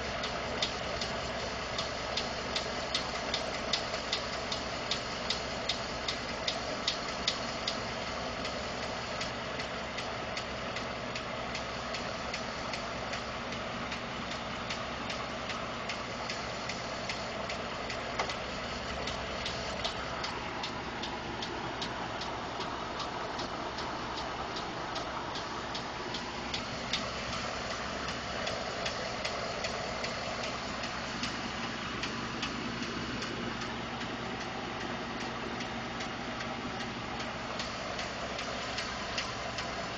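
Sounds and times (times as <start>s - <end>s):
engine idling: 0.0s - 39.9s
engine ticking: 0.0s - 39.9s.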